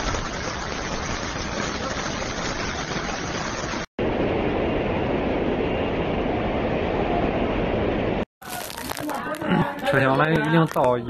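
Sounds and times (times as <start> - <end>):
floodwater rushing: 0.0 - 10.8
rain: 0.0 - 11.0.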